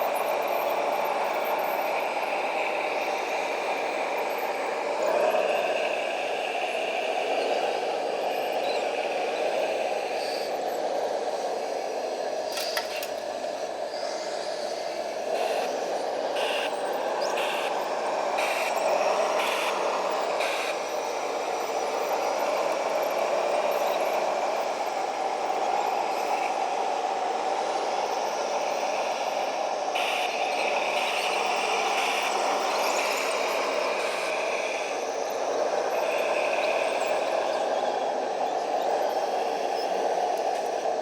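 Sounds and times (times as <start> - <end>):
whir of small motors: 0.0 - 41.0.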